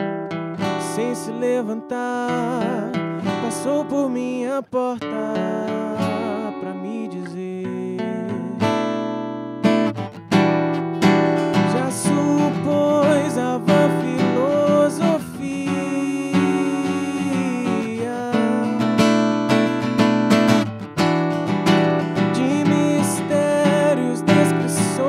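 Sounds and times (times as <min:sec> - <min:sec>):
acoustic guitar strumming: 0:00.0 - 0:25.0
man singing: 0:00.6 - 0:09.1, 0:11.4 - 0:20.0, 0:21.6 - 0:25.0.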